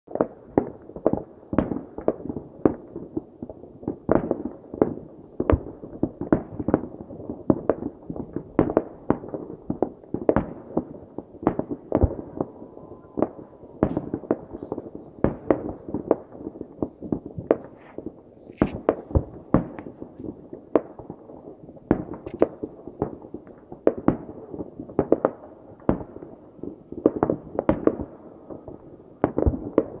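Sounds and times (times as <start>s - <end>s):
fireworks bangs: 4.0s - 30.0s.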